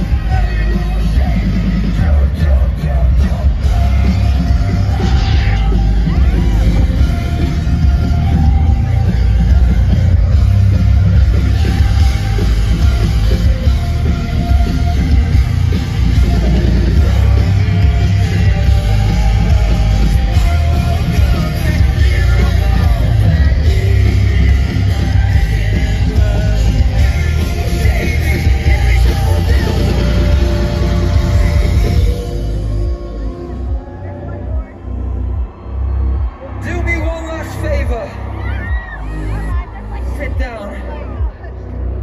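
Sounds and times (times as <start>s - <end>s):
person singing: 0.0s - 34.6s
heavy rock band playing: 0.0s - 42.0s.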